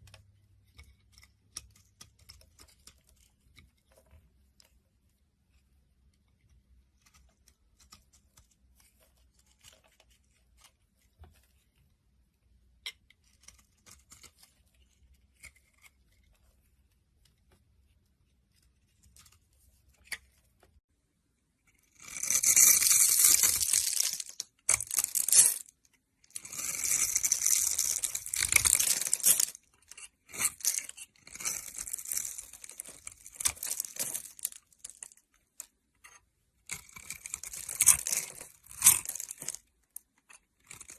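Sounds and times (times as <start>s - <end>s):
blade scraping soap: 0.0s - 4.8s, 6.1s - 11.5s, 12.7s - 20.3s, 21.7s - 40.9s.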